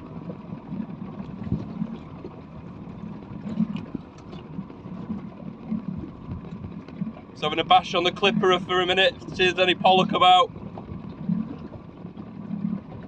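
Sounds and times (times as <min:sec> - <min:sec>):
boat engine idling: 0:00.0 - 0:13.0
water slapping against hull: 0:00.0 - 0:13.0.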